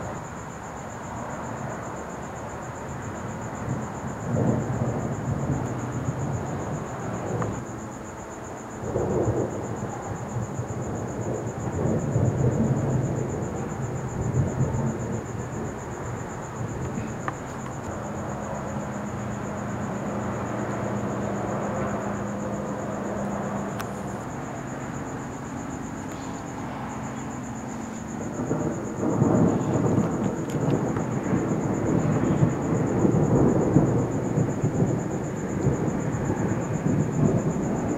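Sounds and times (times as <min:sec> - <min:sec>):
thunder rumbling: 0:02.8 - 0:37.9.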